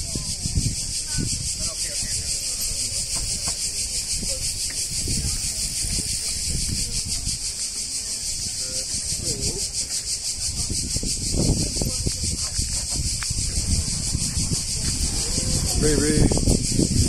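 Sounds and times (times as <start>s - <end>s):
cicadas chorus: 0.0s - 17.0s.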